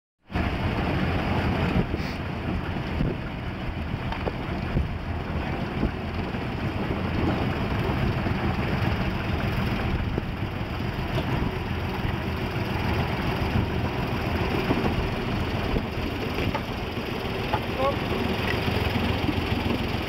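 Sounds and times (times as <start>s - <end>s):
locomotive engine running: 0.3s - 20.0s.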